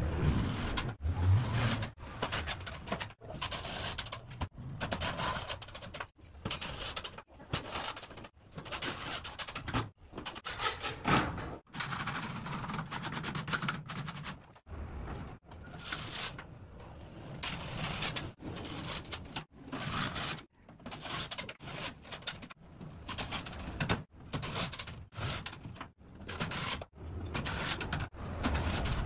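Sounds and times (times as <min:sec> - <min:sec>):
metal framing scraping and knocking: 0:00.2 - 0:29.0.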